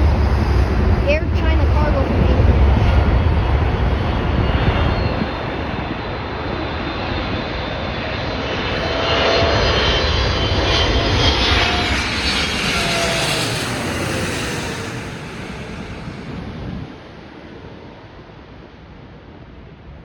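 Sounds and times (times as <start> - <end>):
jet engine rumble and roar: 0.0 - 20.0
jet engine whine: 0.0 - 20.0.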